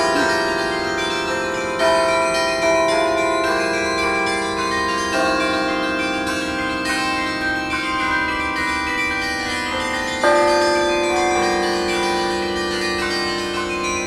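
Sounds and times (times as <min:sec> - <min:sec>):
carillon bells playing melody: 0:00.0 - 0:14.0.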